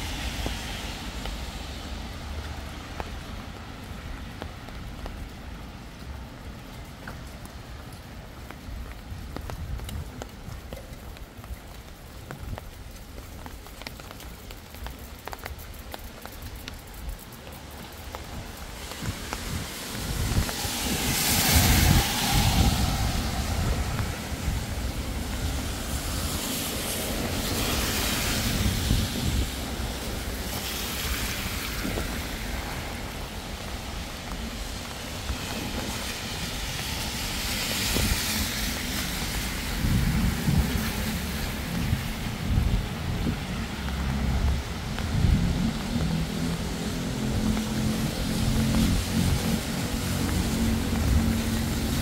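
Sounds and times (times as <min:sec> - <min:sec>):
heavy rain falling: 0:00.0 - 0:52.0
tyre hiss on wet street: 0:00.0 - 0:52.0.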